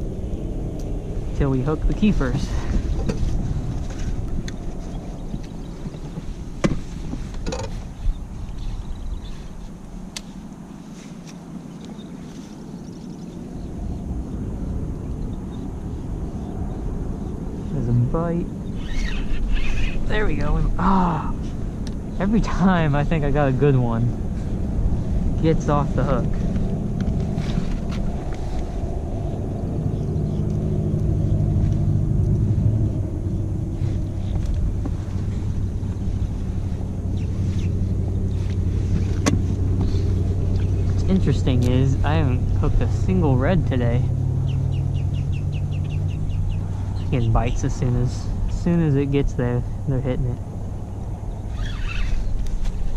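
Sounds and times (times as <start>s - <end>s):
low engine-like drone: 0.0s - 52.9s
wind and water noise: 0.0s - 52.9s.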